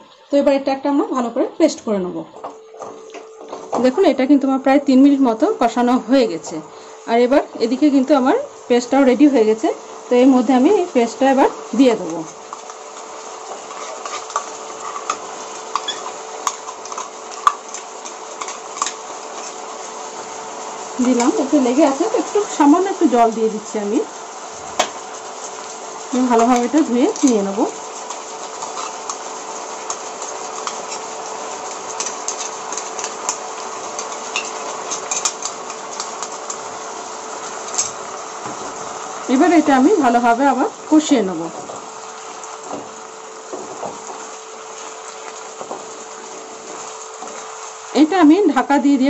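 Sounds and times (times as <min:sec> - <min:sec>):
faint pan sizzle: 0:00.0 - 0:49.0.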